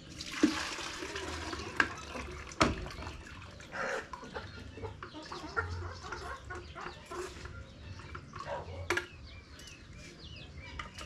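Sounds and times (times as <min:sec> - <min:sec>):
chickens clucking: 0:01.2 - 0:11.0.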